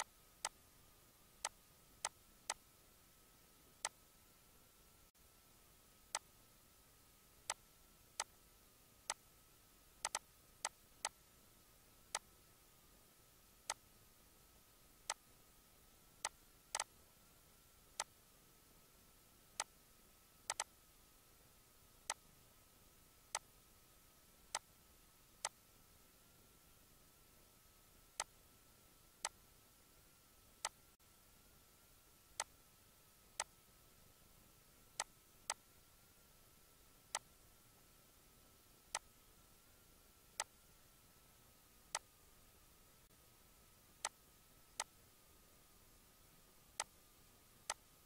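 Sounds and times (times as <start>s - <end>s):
faint steady high whine: 0.0s - 48.0s.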